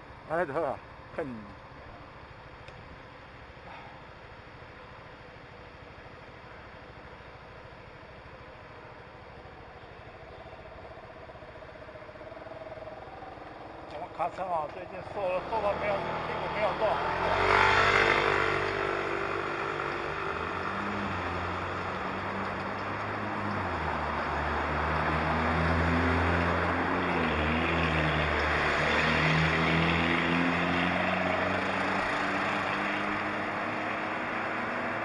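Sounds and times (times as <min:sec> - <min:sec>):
wind and road noise: 0:00.0 - 0:35.0.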